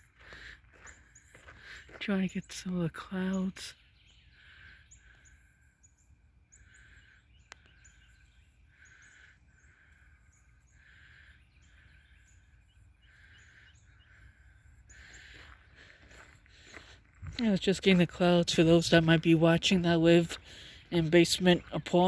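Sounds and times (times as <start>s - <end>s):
distant bird chirps: 0.0s - 22.0s.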